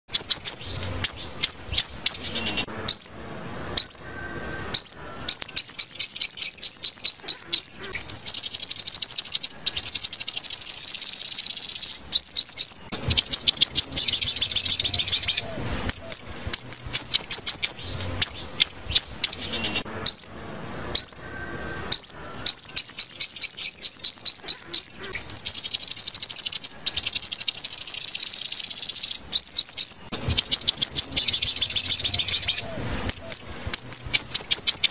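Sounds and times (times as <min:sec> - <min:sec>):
bird trilling and chirping: 0:00.1 - 0:34.9.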